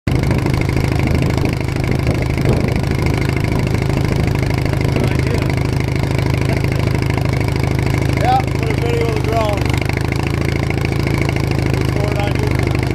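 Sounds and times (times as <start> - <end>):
garden tractor engine running: 0.1 - 12.9.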